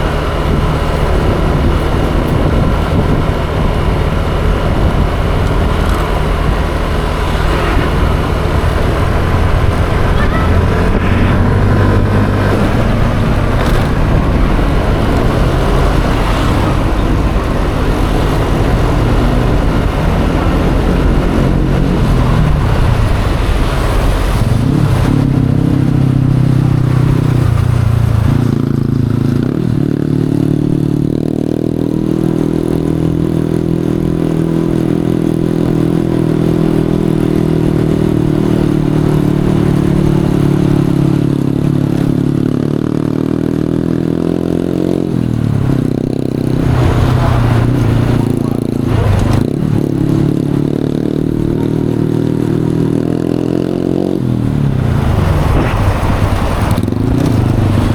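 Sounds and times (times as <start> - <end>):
scooter engine running: 0.0 - 57.9
wind and road noise: 0.0 - 57.9.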